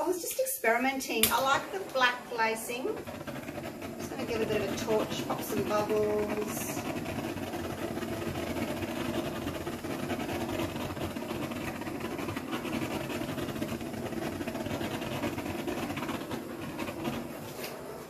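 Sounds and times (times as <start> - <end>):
butane torch flame hissing: 0.0 - 18.0.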